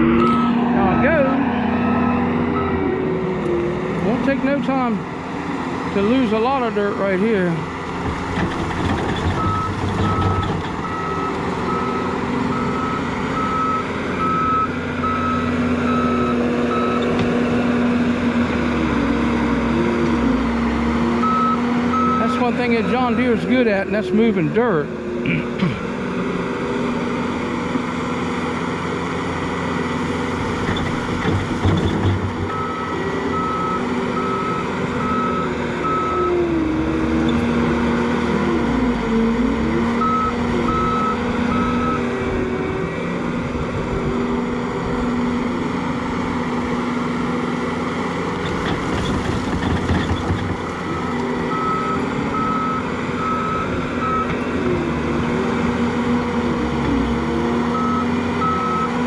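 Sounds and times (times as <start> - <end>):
diesel engine under load: 0.0 - 59.0.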